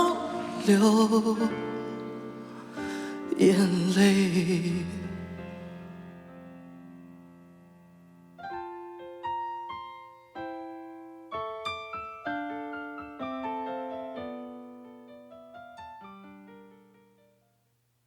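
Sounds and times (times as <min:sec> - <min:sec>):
slow solo piano chords: 0:00.0 - 0:17.4.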